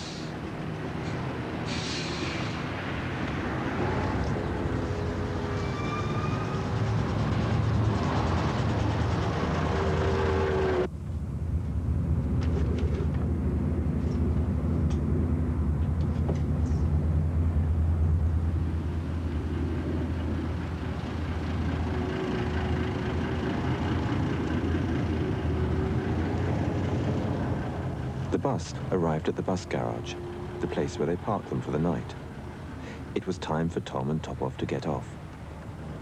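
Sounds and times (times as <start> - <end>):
bus engine droning: 0.0 - 36.0.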